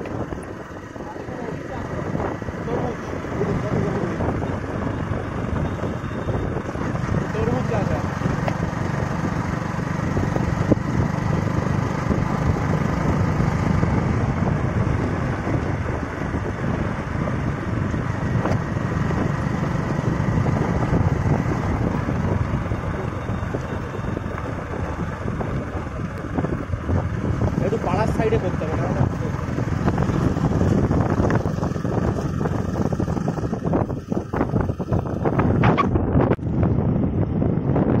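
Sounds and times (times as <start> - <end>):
tyres on wet road: 0.0 - 35.9
motorcycle engine rumble: 0.0 - 38.0
wind noise: 0.0 - 38.0.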